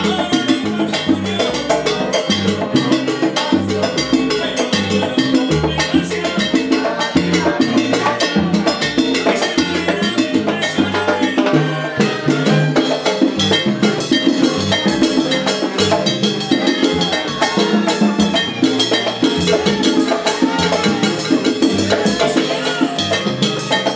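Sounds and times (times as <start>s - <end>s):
drums and percussion beat: 0.0s - 23.9s
live salsa band: 0.0s - 23.9s.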